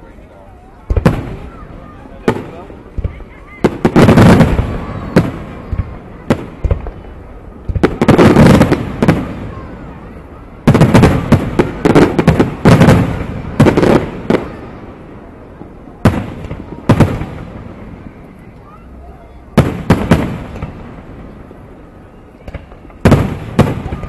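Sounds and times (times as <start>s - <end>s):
fireworks bursting with echo: 0.0s - 24.0s.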